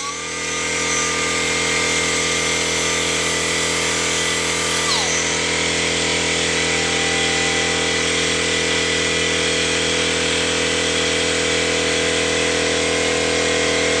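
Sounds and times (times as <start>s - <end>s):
pneumatic grinder whine: 0.0s - 14.0s.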